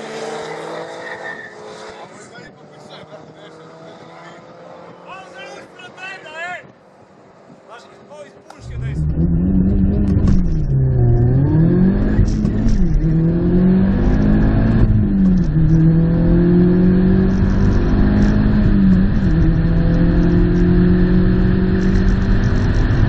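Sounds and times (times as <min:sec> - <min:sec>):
car engine at full throttle: 0:00.0 - 0:06.0, 0:08.5 - 0:23.0.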